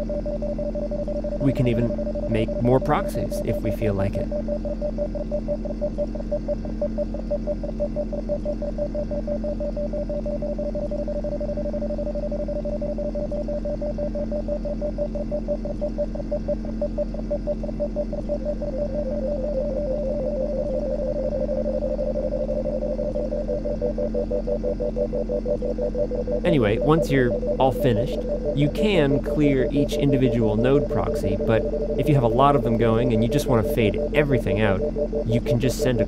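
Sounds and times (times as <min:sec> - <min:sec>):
pulsing sine tones: 0:00.0 - 0:36.0.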